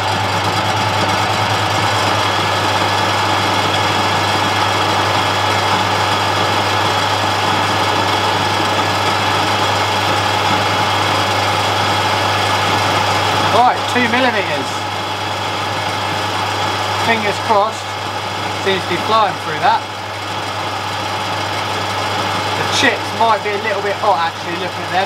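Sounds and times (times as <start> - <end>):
metal lathe motor hum: 0.0 - 25.0.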